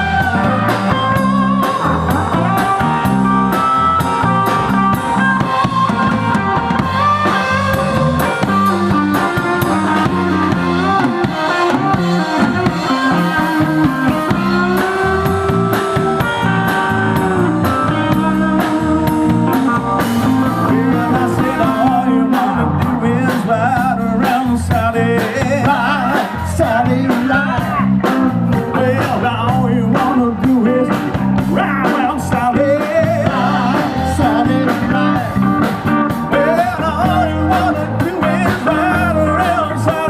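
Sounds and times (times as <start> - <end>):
bass guitar: 0.0 - 40.0
drum kit steady beat: 0.0 - 40.0
guitar with bent notes: 0.0 - 40.0.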